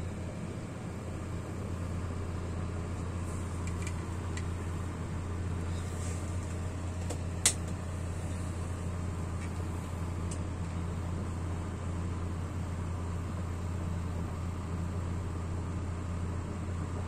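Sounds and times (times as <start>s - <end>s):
kerosene stove burning hum: 0.0s - 17.0s.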